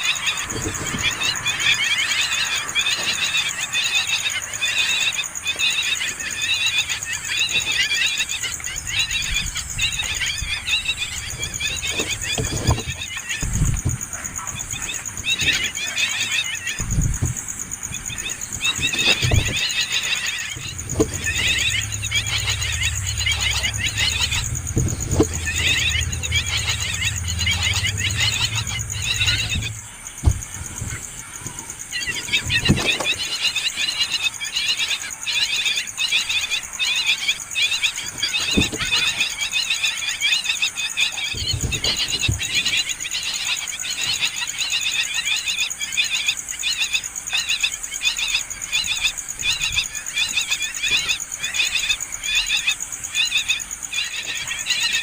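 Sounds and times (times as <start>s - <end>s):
nestling birds begging calls: 0.0s - 55.0s.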